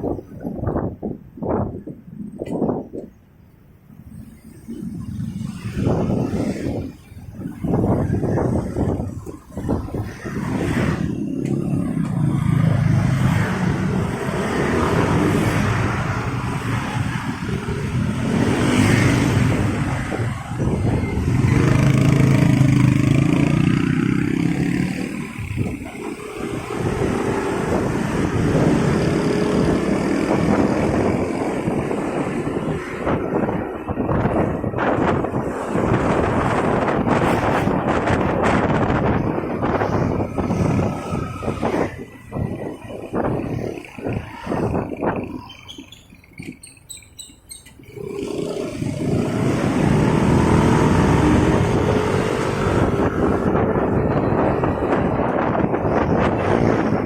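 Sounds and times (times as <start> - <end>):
road noise: 0.0 - 57.0
motorcycle accelerating: 7.8 - 46.6, 47.7 - 57.0.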